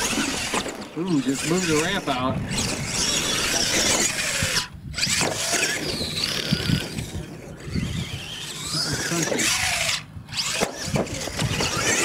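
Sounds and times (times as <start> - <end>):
toy truck motor whining: 0.0 - 12.0.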